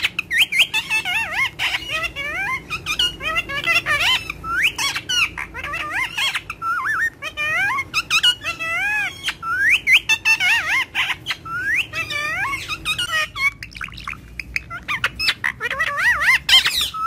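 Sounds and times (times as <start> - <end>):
parakeet chirping and squawking: 0.0 - 17.0.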